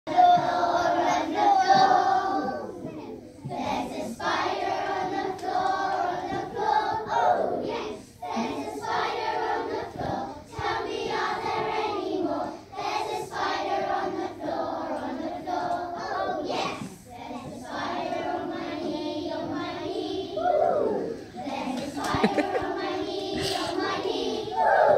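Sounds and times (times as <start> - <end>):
children's choir singing: 0.1 - 24.9.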